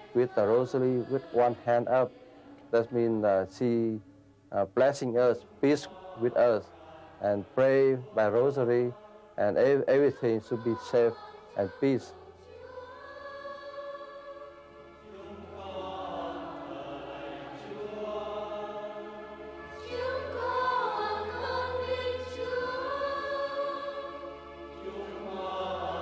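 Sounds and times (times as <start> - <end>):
choir singing long held notes: 0.0 - 26.0.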